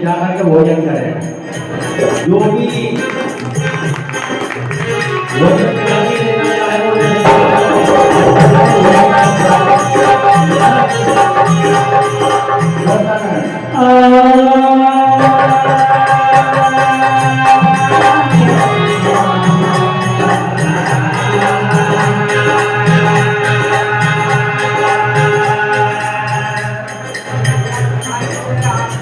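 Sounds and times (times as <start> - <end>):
jingling percussion: 0.0 - 29.0
held melody notes: 0.7 - 29.0
hand drum beat: 1.6 - 13.3, 14.5 - 29.0.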